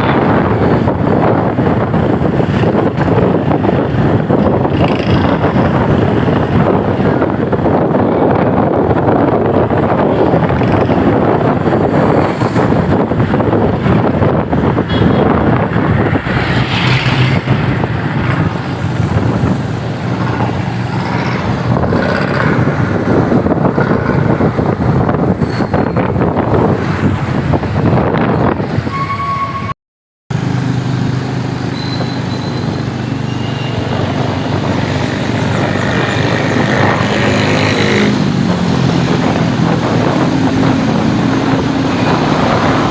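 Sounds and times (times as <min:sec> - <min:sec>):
passing traffic: 0:00.0 - 0:42.9
wind and road noise: 0:00.0 - 0:42.9.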